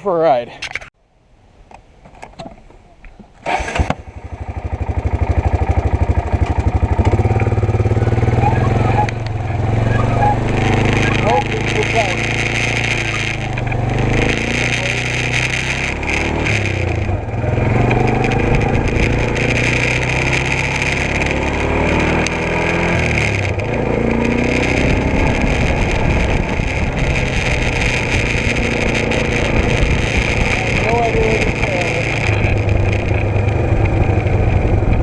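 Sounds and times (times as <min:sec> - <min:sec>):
atv engine revving: 0:03.4 - 0:35.0.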